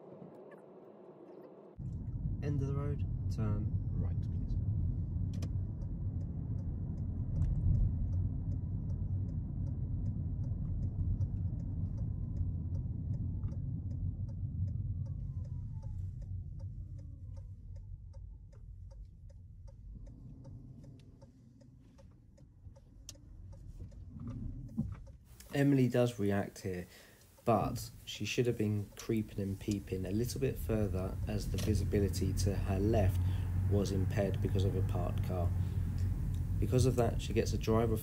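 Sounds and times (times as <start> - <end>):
engine and road rumble: 0.0 - 38.0
turn signal ticking: 3.1 - 38.0.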